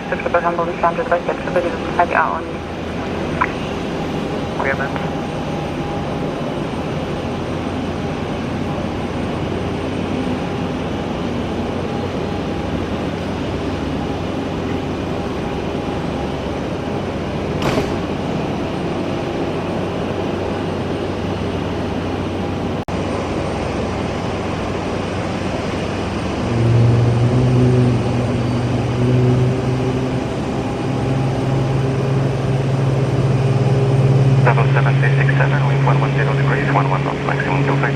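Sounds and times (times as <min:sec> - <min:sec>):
aircraft engine drone: 0:00.0 - 0:37.9
loud low-pitched drone: 0:00.0 - 0:37.9.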